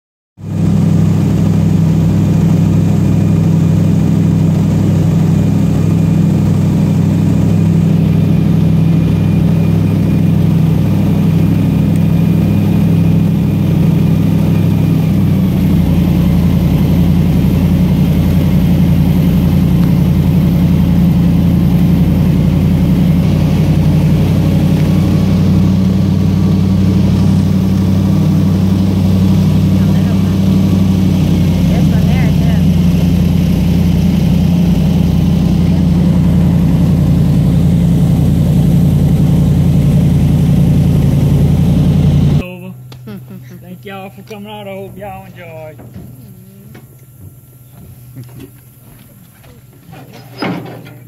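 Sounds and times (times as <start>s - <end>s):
airboat engine and propeller: 0.4s - 51.0s.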